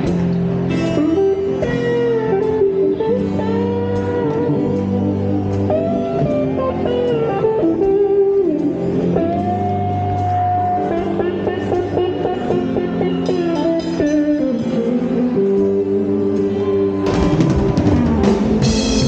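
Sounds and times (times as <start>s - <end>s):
bass notes: 0.0s - 19.0s
lead guitar melody with bends: 0.0s - 19.0s
strummed guitars: 0.0s - 19.0s.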